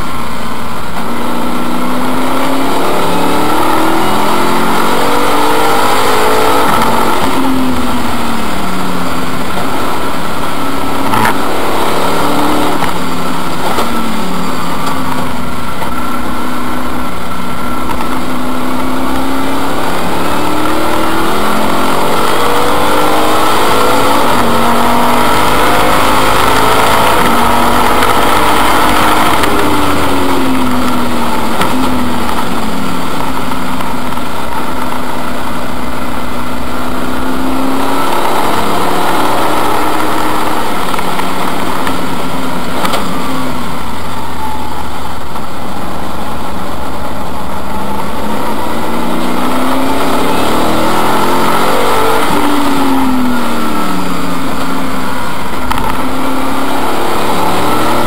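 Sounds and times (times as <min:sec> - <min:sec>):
race car engine from inside cabin: 0:00.0 - 0:58.0.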